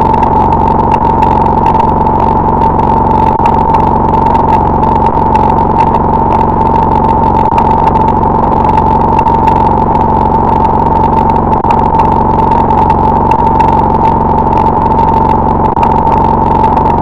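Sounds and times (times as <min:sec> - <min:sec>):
dense buzzing rumble: 0:00.0 - 0:17.0
fast faint crackling: 0:00.0 - 0:17.0
steady high electronic tone: 0:00.0 - 0:17.0.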